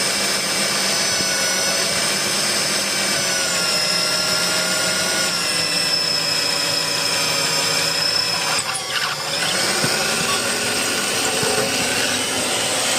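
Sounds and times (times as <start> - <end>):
drill press motor whine: 0.0 - 12.9.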